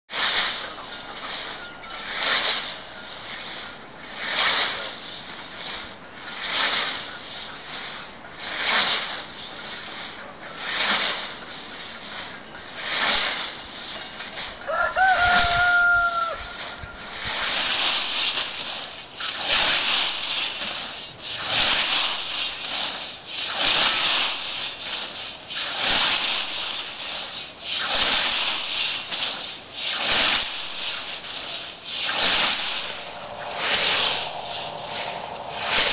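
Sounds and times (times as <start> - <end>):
scythe swishing through plants: 0.1 - 35.9.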